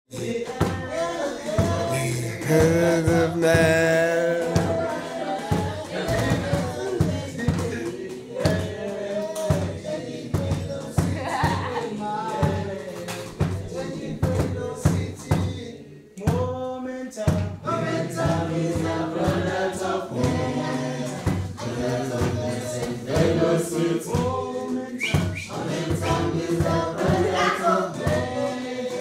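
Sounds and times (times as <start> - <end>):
choir singing: 0.1 - 29.0.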